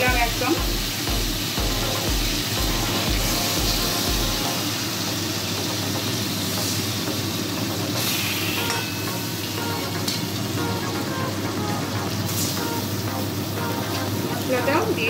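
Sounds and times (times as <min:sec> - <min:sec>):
spatula moving frying fish: 0:00.0 - 0:14.5
fish frying in oil sizzle: 0:00.0 - 0:15.0.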